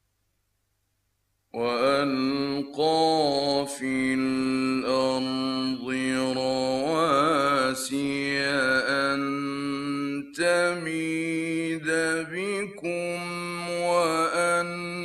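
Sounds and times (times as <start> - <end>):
man reciting melodically: 1.6 - 15.0.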